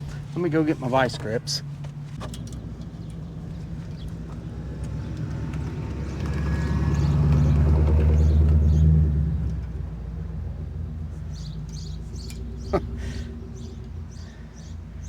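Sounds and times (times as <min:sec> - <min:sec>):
vehicle engine rumble passing: 0:00.0 - 0:15.0.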